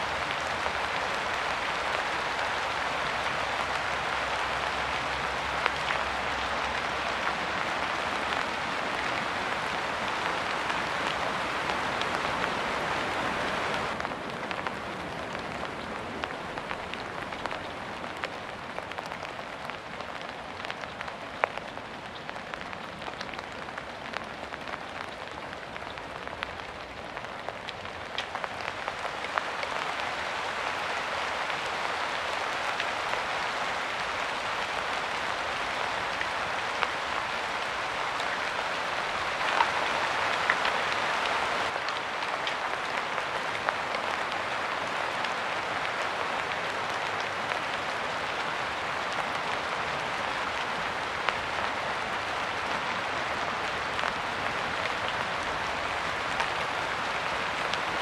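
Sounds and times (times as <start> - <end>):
raindrops ticking: 0.0 - 15.9, 25.9 - 58.0
steady rain: 0.0 - 58.0.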